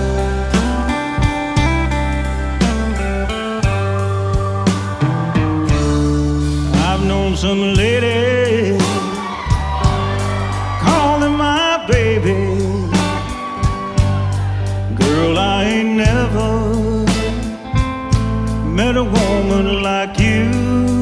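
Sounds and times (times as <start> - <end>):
drums steady beat: 0.0 - 21.0
electric bass: 0.0 - 21.0
electric guitar melody: 0.0 - 21.0.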